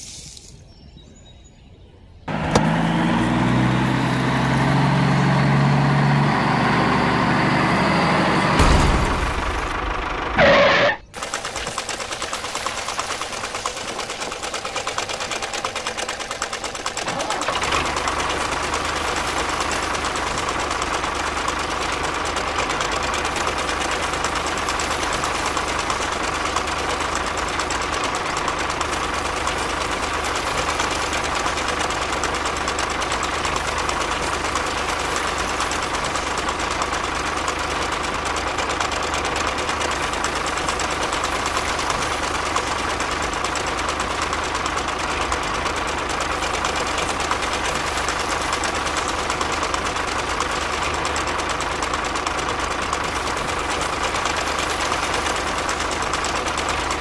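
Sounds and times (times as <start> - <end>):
model tractor motor humming: 2.3 - 57.0.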